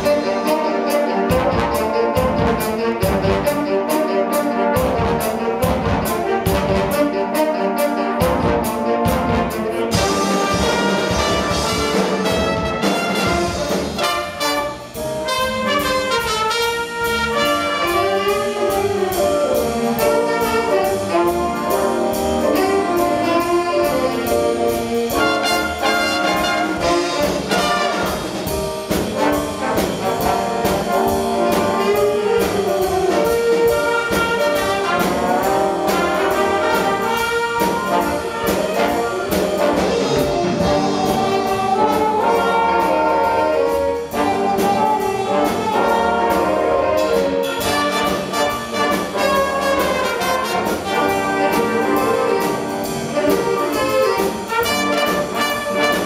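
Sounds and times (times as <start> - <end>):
drum kit beat: 0.0 - 56.0
saxophones and trumpets playing: 0.0 - 56.0.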